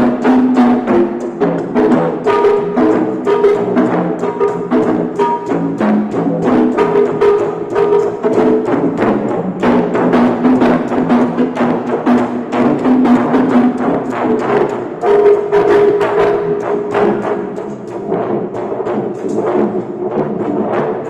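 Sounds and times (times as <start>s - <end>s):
sharp wooden percussion knocks: 0.0s - 18.0s.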